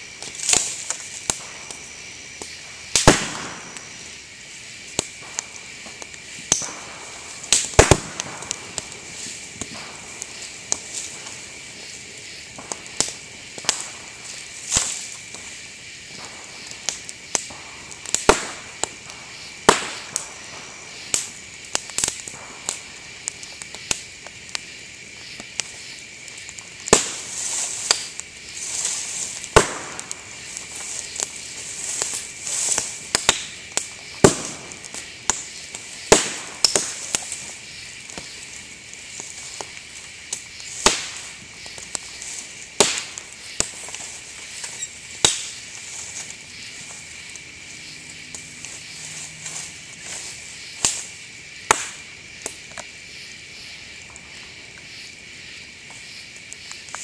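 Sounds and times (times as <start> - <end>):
bamboo bursting with sharp pops: 0.0 - 53.0, 55.9 - 57.0
campfire crackling: 0.0 - 57.0.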